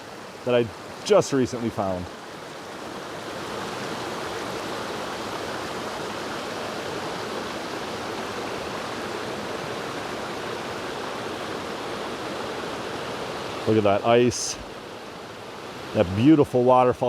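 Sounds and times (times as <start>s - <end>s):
creek and waterfall flowing: 0.0s - 17.0s.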